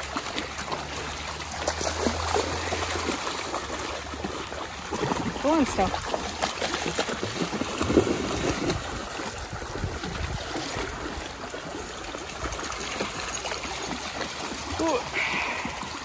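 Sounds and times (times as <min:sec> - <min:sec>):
creek water over rocks: 0:00.0 - 0:16.0
dogs splashing through water: 0:00.0 - 0:16.0.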